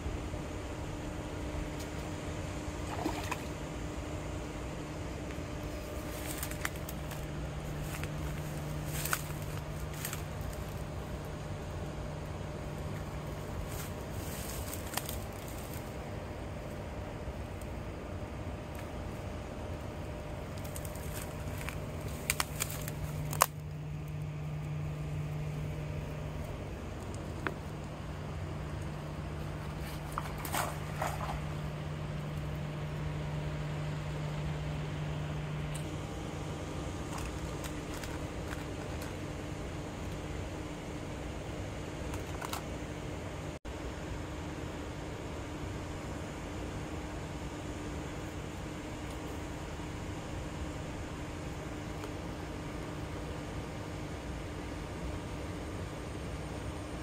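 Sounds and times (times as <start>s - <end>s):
low hum: 0.0s - 56.6s.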